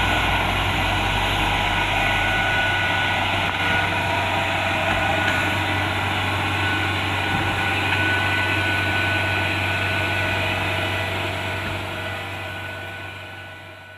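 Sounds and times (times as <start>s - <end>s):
diesel engine droning: 0.0s - 13.9s
whir of threshing machinery: 0.0s - 13.9s.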